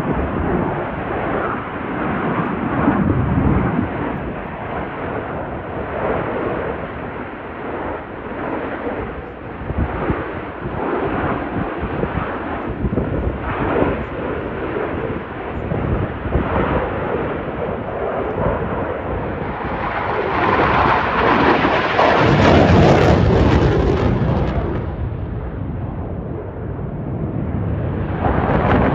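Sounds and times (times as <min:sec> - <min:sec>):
jets flying overhead: 0:00.0 - 0:28.9.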